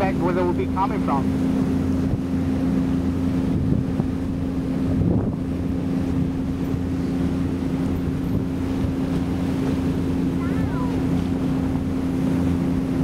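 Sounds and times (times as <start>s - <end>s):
boat engine droning: 0.0s - 13.0s
wind on microphone: 1.4s - 13.0s.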